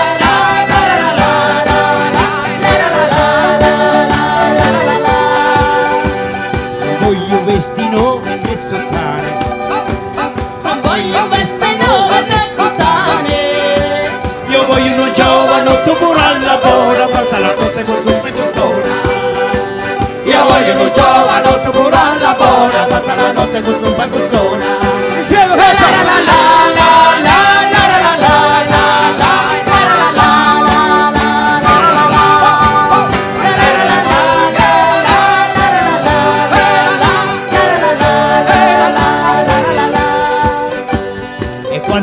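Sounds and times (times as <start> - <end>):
folk band playing dance tune: 0.0 - 42.0
person singing: 0.0 - 42.0
quick percussion beat: 0.0 - 42.0.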